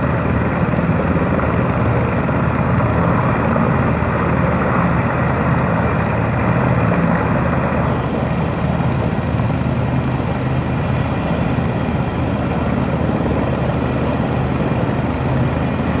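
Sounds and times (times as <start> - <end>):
helicopter low drone: 0.0 - 16.0.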